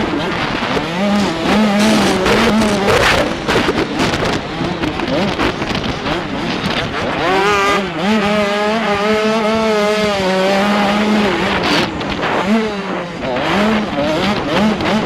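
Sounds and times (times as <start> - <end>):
two-stroke motocross engine revving: 0.0 - 15.0.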